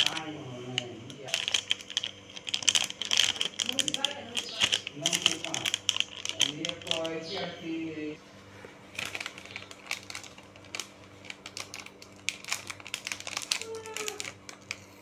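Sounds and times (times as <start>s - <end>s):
plastic wrapper crinkling: 0.0s - 7.3s, 8.9s - 15.0s.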